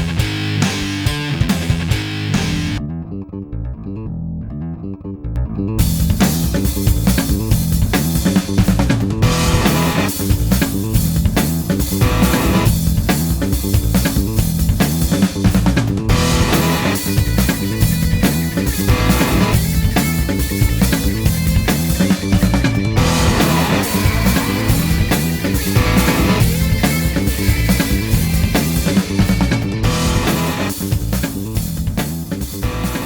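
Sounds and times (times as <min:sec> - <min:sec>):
rock band playing: 0:00.0 - 0:02.8, 0:05.8 - 0:33.0.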